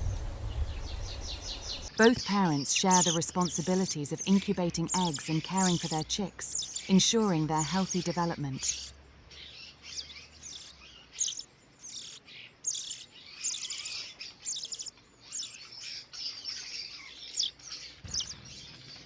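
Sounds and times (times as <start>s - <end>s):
small songbirds chirping: 0.0s - 19.0s.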